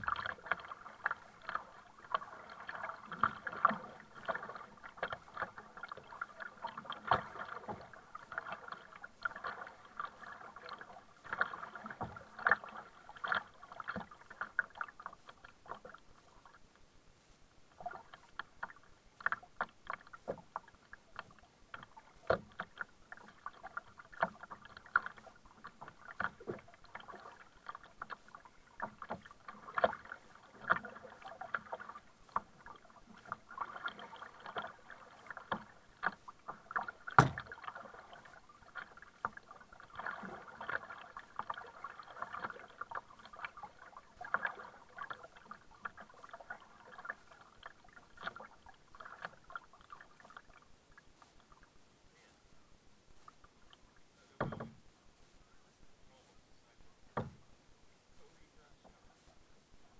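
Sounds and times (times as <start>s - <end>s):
paddle splashing into water: 0.0s - 16.6s, 17.7s - 51.7s, 53.2s - 54.9s, 57.0s - 57.5s
water dripping against plastic hull: 0.0s - 16.8s, 17.7s - 51.7s, 53.2s - 54.9s, 57.1s - 57.5s.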